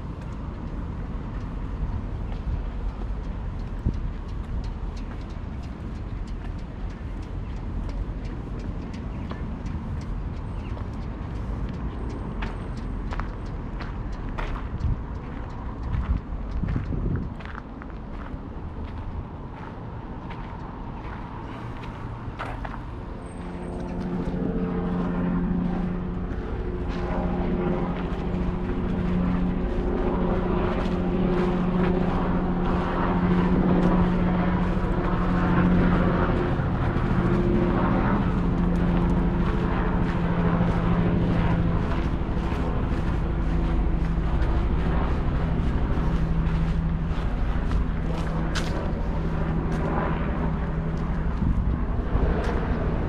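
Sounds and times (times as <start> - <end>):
large engine humming: 0.0 - 53.0.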